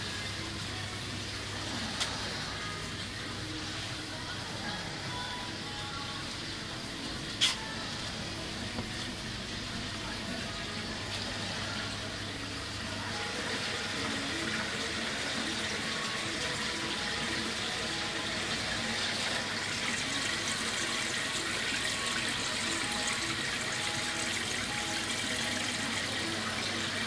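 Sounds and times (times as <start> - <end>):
aquarium water splashing: 0.0 - 27.0.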